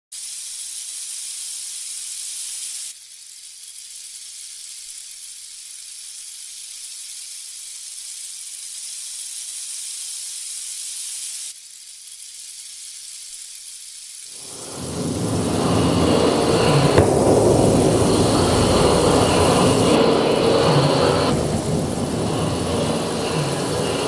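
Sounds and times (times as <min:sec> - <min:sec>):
high-pitched static hiss: 0:00.1 - 0:24.0.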